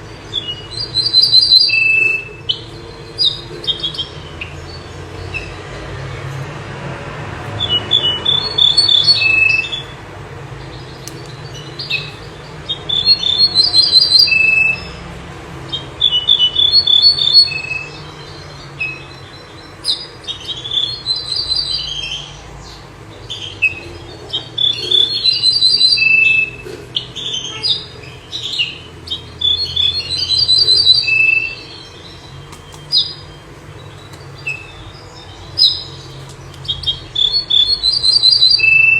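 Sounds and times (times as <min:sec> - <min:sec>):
songbird singing high phrases: 0:00.0 - 0:05.6, 0:07.6 - 0:10.0, 0:10.7 - 0:15.0, 0:15.7 - 0:38.9.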